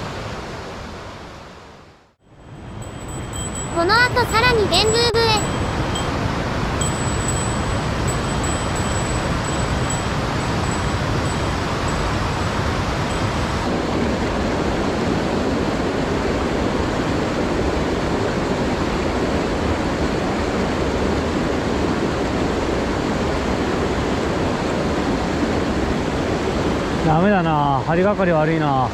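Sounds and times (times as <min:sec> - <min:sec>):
stream rushing over boulders: 0:03.6 - 0:28.9.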